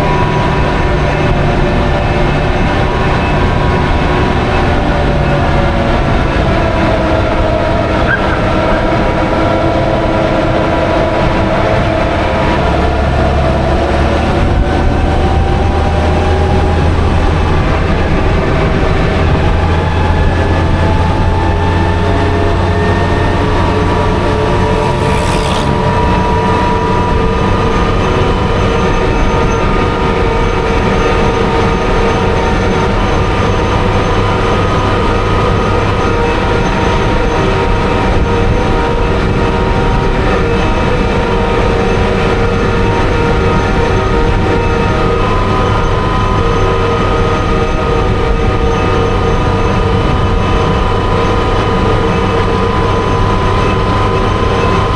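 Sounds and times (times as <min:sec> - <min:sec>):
deeper drone: 0:00.0 - 0:54.9
vehicle engine whining: 0:00.0 - 0:54.9.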